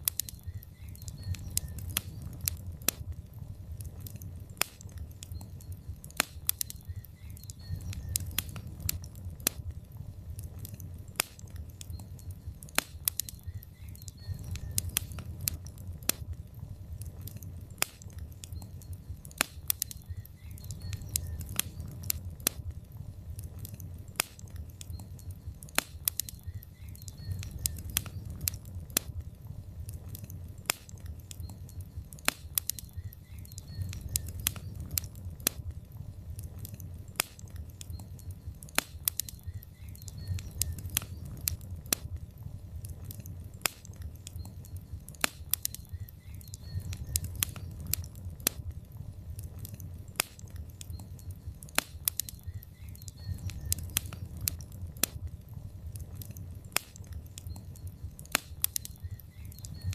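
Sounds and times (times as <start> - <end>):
log fire crackling and popping: 0.0 - 59.9
low rumble of flames: 0.0 - 59.9.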